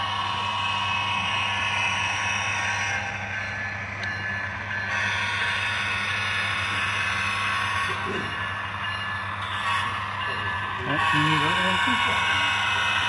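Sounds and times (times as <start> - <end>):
train rumbling by: 0.0 - 13.0.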